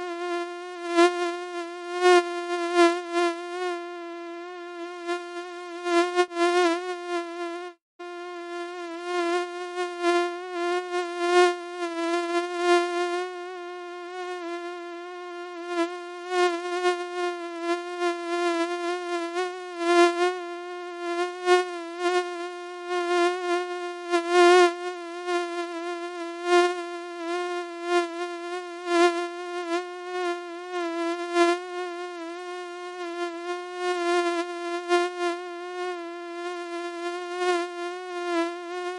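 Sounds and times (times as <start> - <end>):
mosquito wing whine: 0.0 - 38.9.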